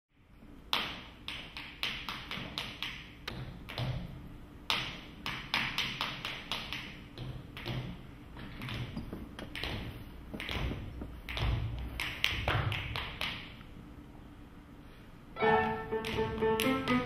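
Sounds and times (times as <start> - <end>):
dance shoes tapping on stage floor: 0.7 - 13.6, 15.5 - 17.0.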